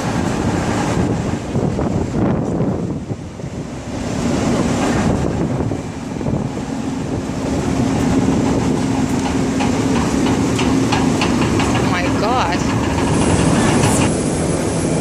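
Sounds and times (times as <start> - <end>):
low mechanical hum: 0.0 - 15.0
wind buffeting microphone: 0.0 - 15.0.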